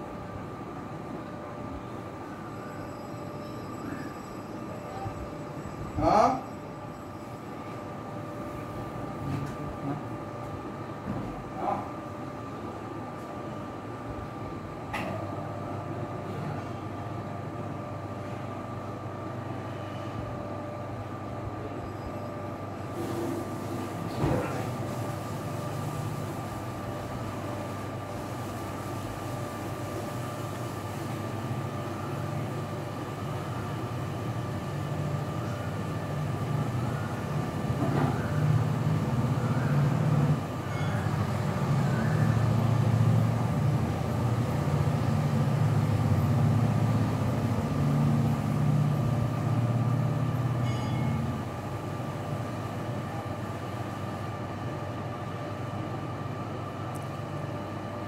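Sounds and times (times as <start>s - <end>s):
steady high hum: 0.0s - 58.0s.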